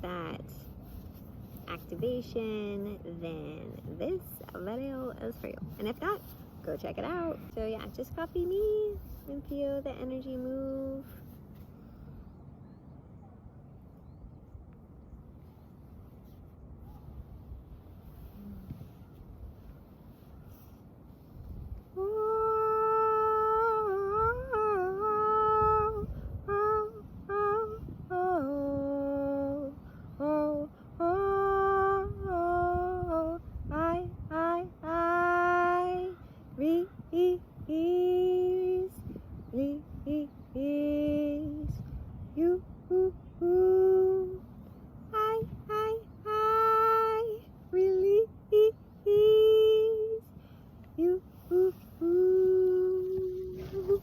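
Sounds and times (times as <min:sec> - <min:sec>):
woman singing wordless syllables: 0:00.0 - 0:11.4, 0:21.4 - 0:54.0.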